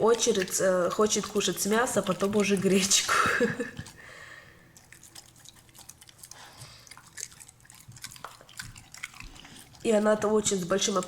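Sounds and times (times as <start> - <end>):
dog chewing and licking: 0.0 - 11.0.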